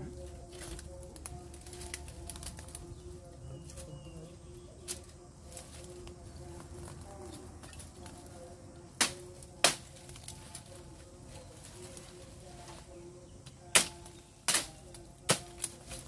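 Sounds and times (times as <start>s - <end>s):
twigs snapping by hand: 0.2s - 4.0s, 4.8s - 10.8s, 11.9s - 16.0s.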